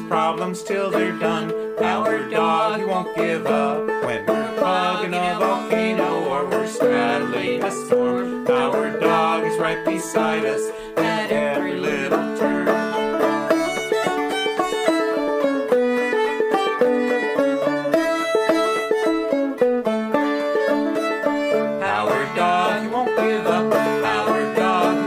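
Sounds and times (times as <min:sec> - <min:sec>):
plucked string instrumental music: 0:00.0 - 0:25.0.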